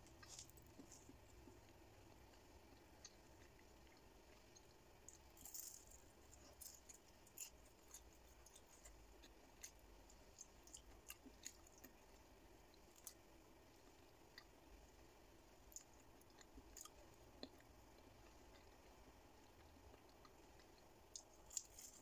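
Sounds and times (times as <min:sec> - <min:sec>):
crunchy chewing: 0:00.0 - 0:14.6, 0:15.6 - 0:22.0.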